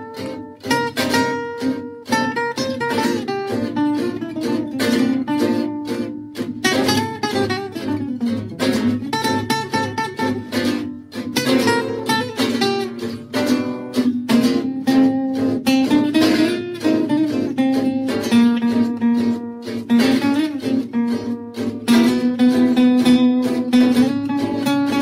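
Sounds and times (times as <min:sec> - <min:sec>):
guitar music: 0:00.0 - 0:25.0.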